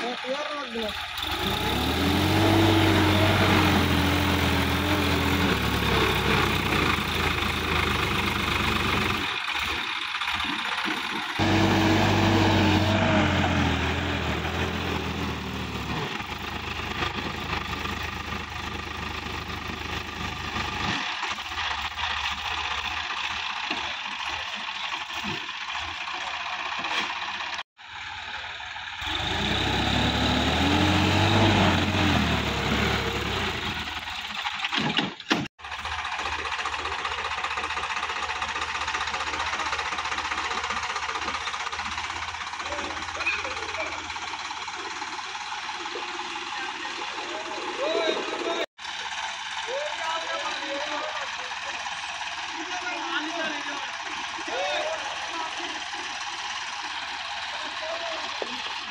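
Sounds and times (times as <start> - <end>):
tractor diesel engine revving: 0.0 - 34.8, 35.6 - 58.9.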